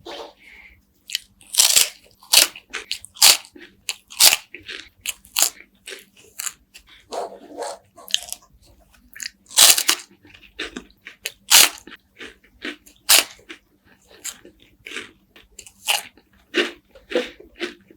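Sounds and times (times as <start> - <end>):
crunching and chewing wafers: 1.0 - 7.2, 8.0 - 17.9.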